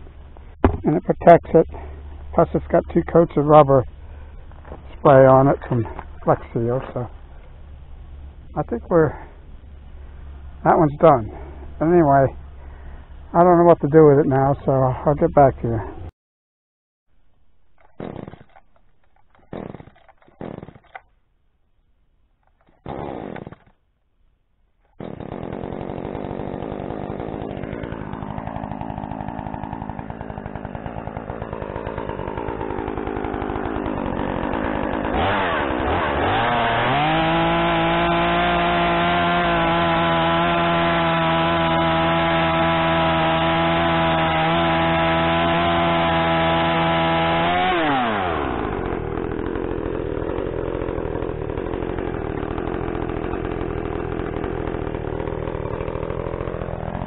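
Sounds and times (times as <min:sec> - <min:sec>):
chainsaw running: 0:00.0 - 0:16.0, 0:17.8 - 0:21.1, 0:22.4 - 0:23.8, 0:24.8 - 0:57.0.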